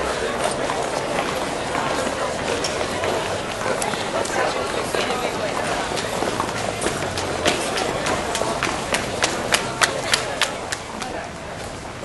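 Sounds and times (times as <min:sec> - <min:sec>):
hard-soled footsteps on paved floor: 0:00.0 - 0:12.0
murmur of commuters: 0:00.0 - 0:12.0.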